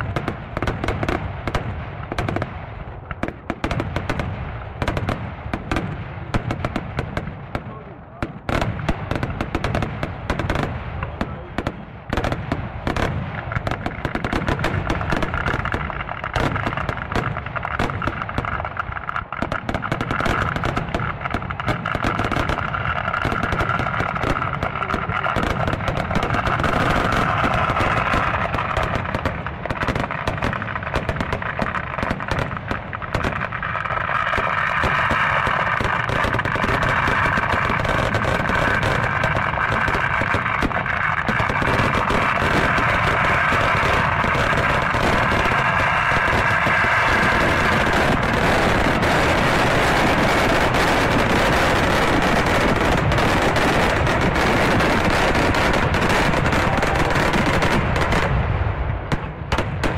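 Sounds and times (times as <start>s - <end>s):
fireworks banging and crackling: 0.0s - 59.9s.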